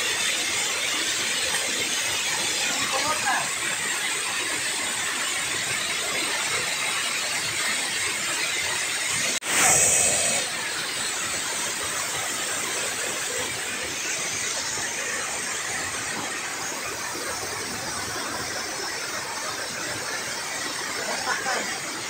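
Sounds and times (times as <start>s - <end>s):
water pouring over spillway: 0.0s - 22.0s.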